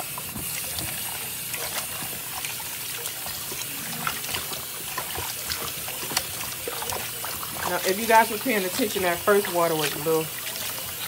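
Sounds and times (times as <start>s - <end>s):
tap running into bowl: 0.0s - 11.0s.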